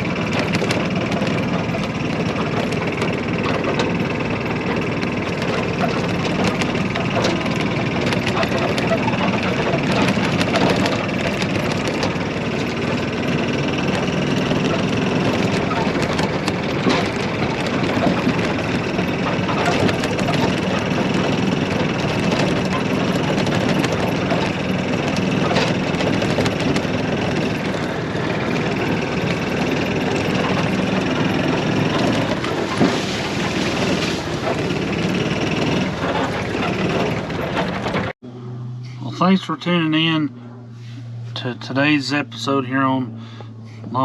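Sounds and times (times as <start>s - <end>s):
clicks and rattles: 0.0s - 38.2s
golf cart engine running: 0.0s - 44.0s.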